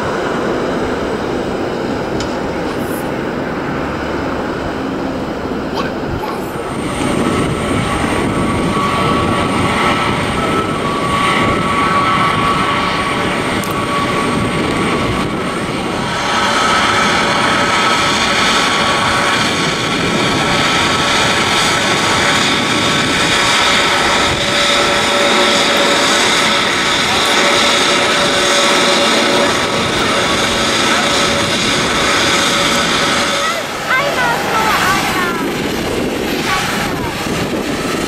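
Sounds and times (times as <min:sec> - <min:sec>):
jet engines taxiing: 0:00.0 - 0:38.0.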